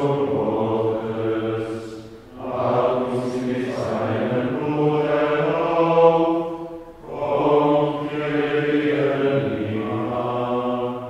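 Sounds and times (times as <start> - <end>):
men chanting plainchant: 0.0 - 11.0.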